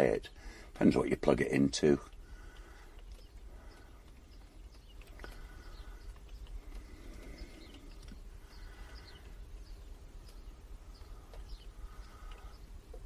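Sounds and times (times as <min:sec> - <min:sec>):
low steady hum: 0:00.0 - 0:13.0
faint bird chirps: 0:02.0 - 0:13.0.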